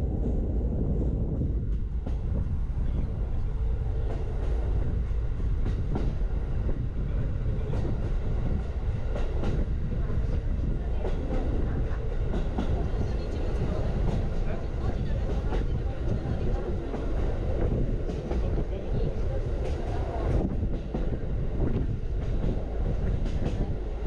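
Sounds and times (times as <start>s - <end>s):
rumble of wheels on rail: 0.0s - 24.0s.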